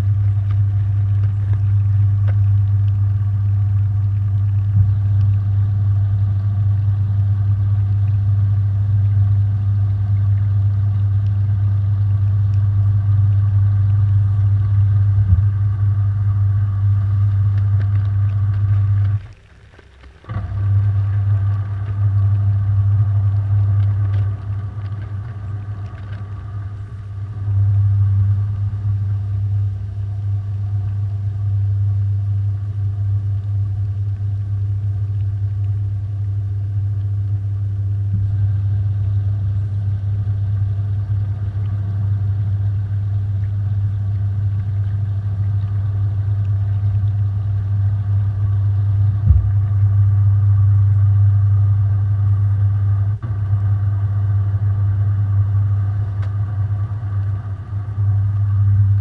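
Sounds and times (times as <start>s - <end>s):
washing machine motor hum: 0.0s - 59.0s.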